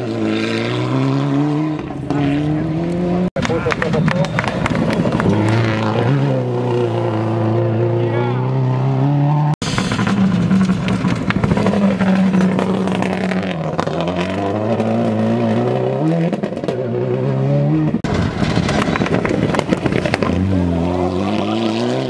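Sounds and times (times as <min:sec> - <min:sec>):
approaching rally car engine: 0:00.0 - 0:22.0
rally car engine at full throttle: 0:00.0 - 0:22.0.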